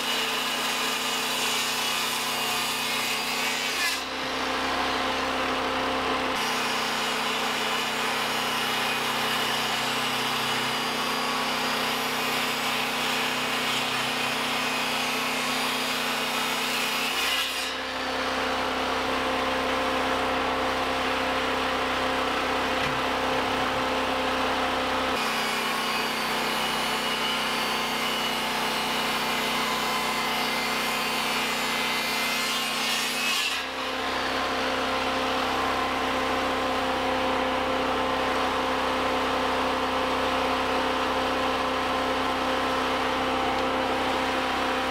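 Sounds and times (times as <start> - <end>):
power saw cutting wood: 0.0 - 44.9.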